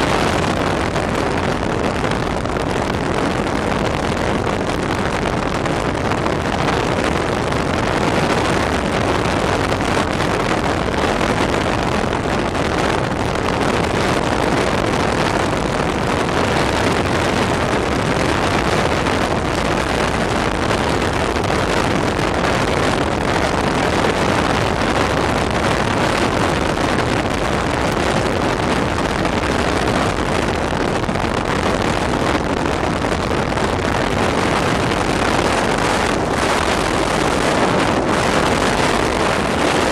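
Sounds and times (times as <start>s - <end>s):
vehicle road and wind noise: 0.0s - 39.9s.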